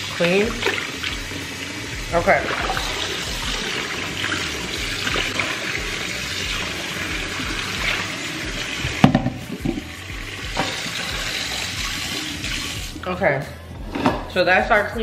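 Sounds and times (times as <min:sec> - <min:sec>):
faucet running into steel sink: 0:00.0 - 0:13.0.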